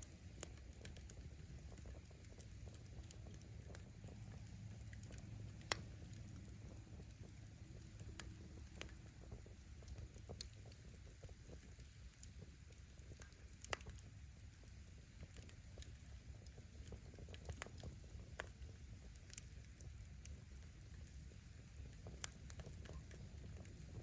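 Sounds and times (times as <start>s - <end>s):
firewood snapping and popping: 0.0s - 24.0s
low rumble of burning fire: 0.0s - 24.0s.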